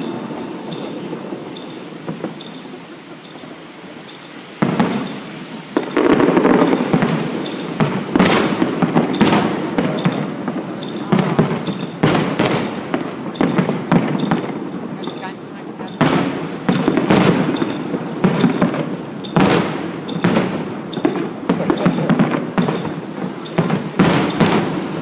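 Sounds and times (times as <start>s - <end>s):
fireworks bangs with crackling: 0.0s - 25.0s.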